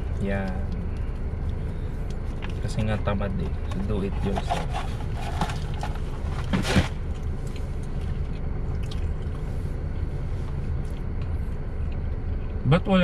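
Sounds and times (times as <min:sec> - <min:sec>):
steady low hum: 0:00.0 - 0:13.0
quiet chewing: 0:00.1 - 0:09.8, 0:10.4 - 0:12.6.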